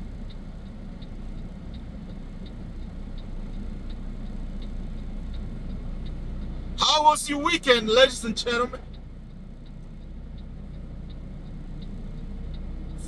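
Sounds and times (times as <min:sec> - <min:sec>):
truck engine rumble: 0:00.0 - 0:13.0
turn signal ticking: 0:00.0 - 0:13.0.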